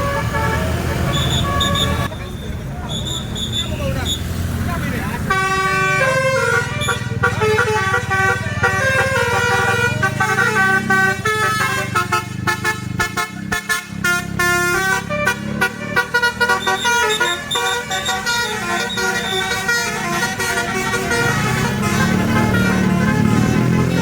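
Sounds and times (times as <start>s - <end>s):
multi-tone bus horn melody: 0.0s - 4.4s, 5.1s - 24.0s
bus engine running: 0.0s - 24.0s.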